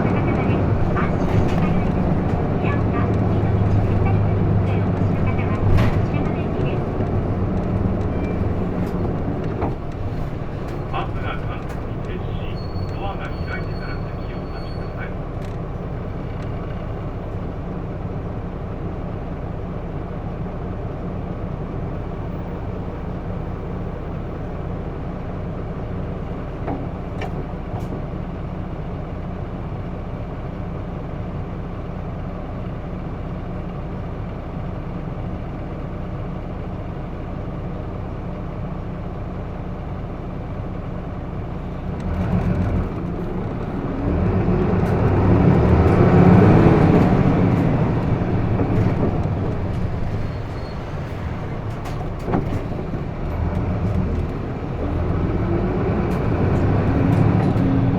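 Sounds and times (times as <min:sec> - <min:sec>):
bus engine and road noise: 0:00.0 - 0:57.9.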